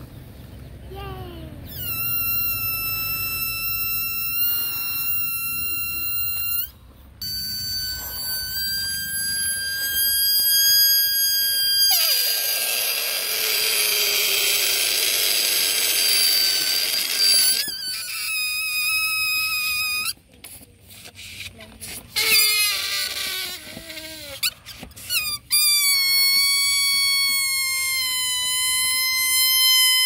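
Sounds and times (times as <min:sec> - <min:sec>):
balloon squealing air out: 0:01.0 - 0:20.3, 0:21.1 - 0:30.0.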